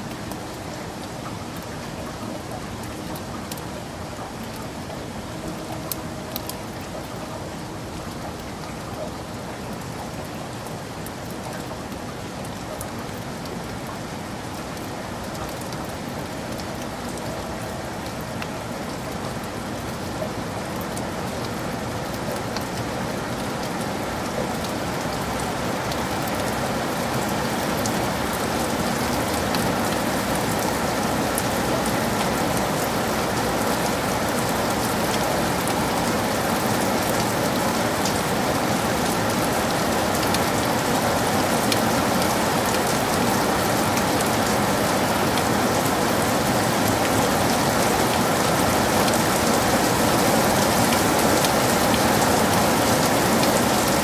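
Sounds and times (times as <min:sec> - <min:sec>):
close raindrops striking: 0:00.0 - 0:54.0
heavy rain in forest: 0:00.0 - 0:54.0.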